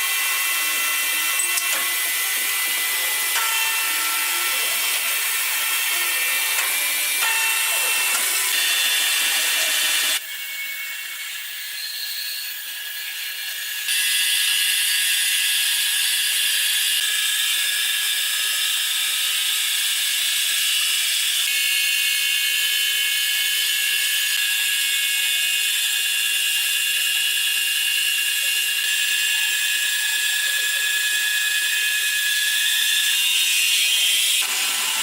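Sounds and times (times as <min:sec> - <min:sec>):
sawmill saw whining: 0:00.0 - 0:35.0.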